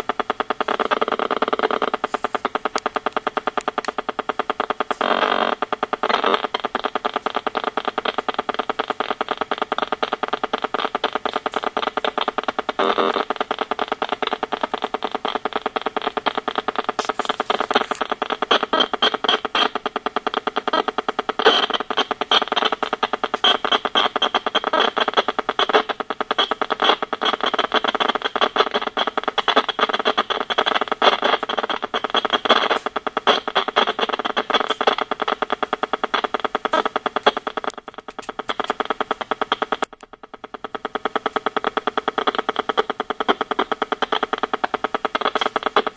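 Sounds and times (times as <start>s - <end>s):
rf meter buzzing and clicking: 0.0s - 45.9s.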